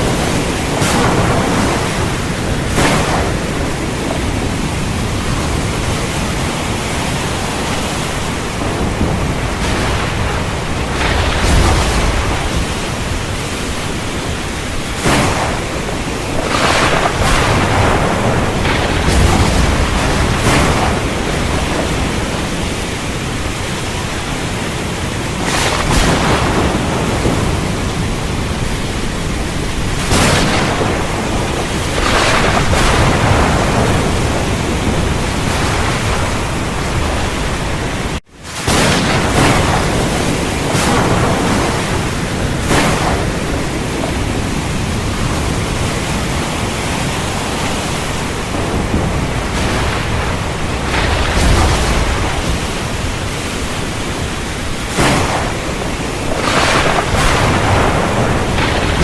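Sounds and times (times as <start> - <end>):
heavy rain falling: 0.0 - 59.0
thunderclaps and rumbles: 0.0 - 59.0.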